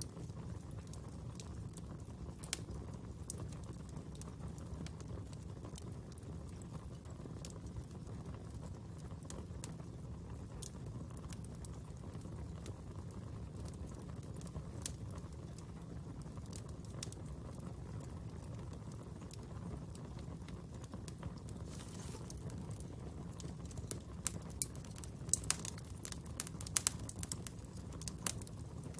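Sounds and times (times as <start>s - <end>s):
low rumble of flames: 0.0s - 28.9s
wood fire crackling and popping: 0.0s - 28.9s.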